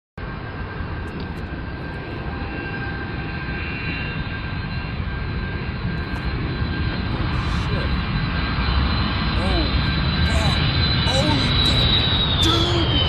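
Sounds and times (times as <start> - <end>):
airplane engines rumbling: 0.2 - 13.0
steady engine whine: 0.2 - 13.0.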